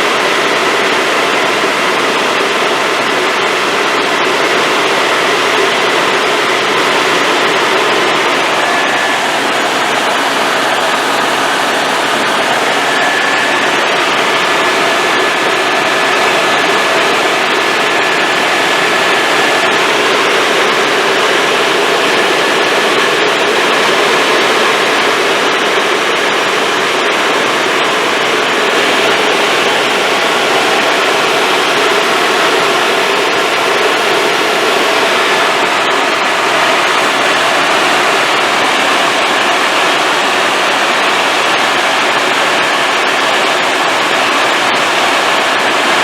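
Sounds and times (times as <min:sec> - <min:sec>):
faint high whine: 0:00.0 - 0:46.0
helicopter turbine and rotor drone: 0:00.0 - 0:46.0.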